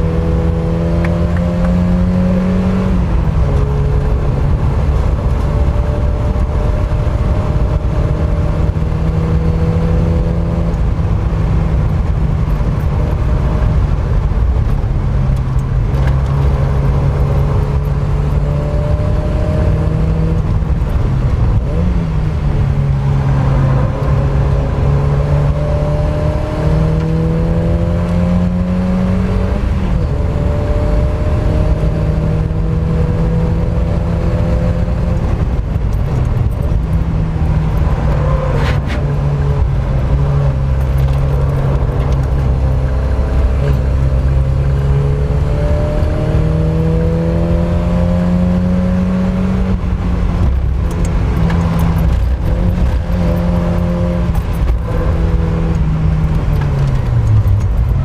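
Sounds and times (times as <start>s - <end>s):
car engine revving hard: 0.0s - 14.6s, 15.8s - 58.0s
road and wind noise: 0.0s - 58.0s.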